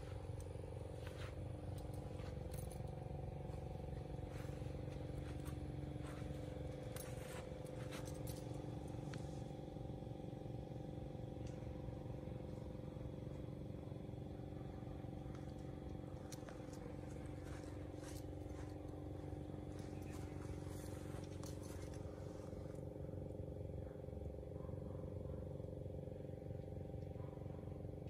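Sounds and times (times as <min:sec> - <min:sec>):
low mechanical drone: 0:00.0 - 0:28.0.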